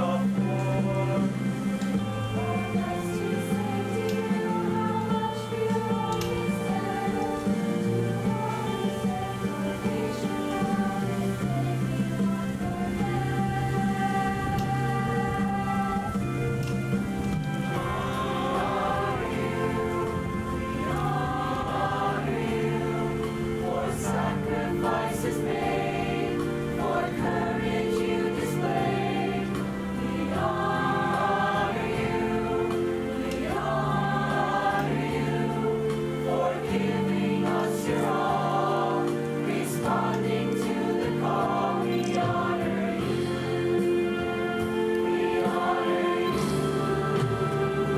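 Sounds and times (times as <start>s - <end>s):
choir singing sustained chords: 0.0s - 47.9s.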